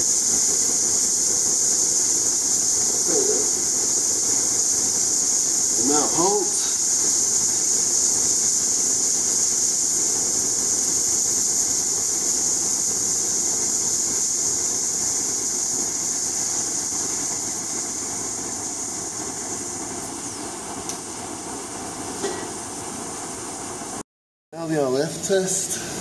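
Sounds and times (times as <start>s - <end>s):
compressed air hissing: 0.0s - 21.2s, 25.3s - 26.0s.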